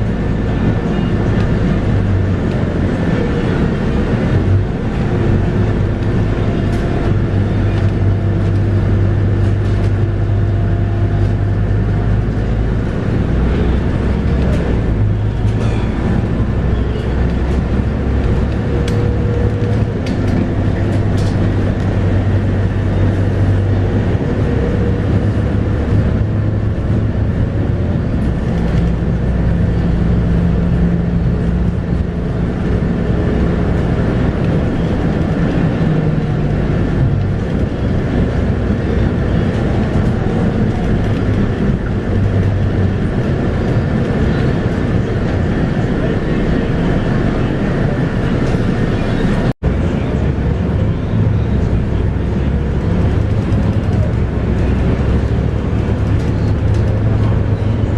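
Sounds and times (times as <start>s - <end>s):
bus diesel engine running: 0.0s - 57.9s
road and body noise: 0.0s - 57.9s.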